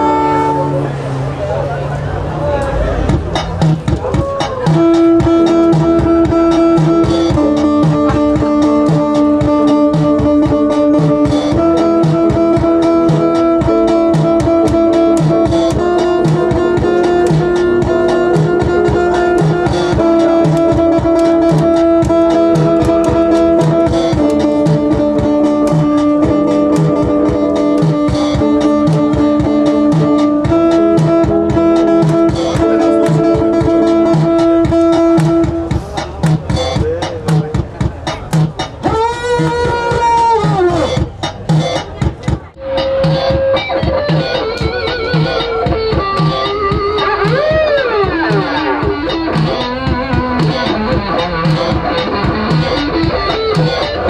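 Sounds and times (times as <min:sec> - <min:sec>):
electronic keyboard chords: 0:00.0 - 0:54.0
guitar: 0:00.0 - 0:54.0
steady drum beat: 0:03.0 - 0:54.0.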